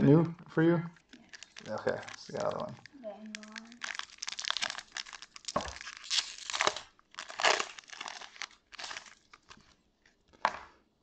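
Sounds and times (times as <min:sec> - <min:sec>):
foil wrapper crinkling and tearing: 0:00.9 - 0:10.4.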